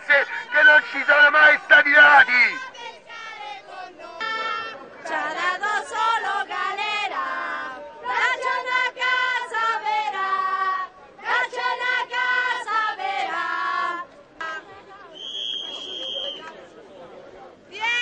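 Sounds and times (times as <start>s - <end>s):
protesters chanting: 0.0s - 14.9s.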